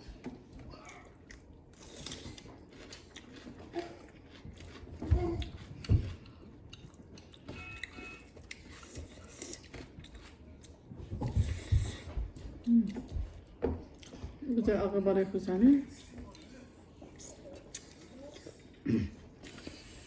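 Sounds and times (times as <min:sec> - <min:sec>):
chewing with small clicks: 0:00.2 - 0:12.0, 0:12.6 - 0:14.4, 0:16.0 - 0:18.8, 0:19.4 - 0:20.0.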